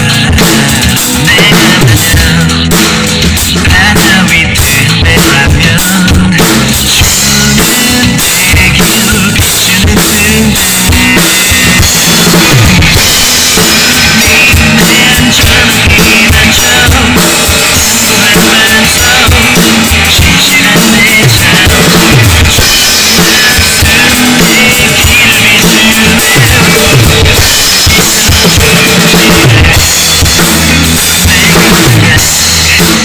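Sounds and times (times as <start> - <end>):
recorded rock song: 0.0 - 33.0
kick drum and snare beat: 0.2 - 33.0.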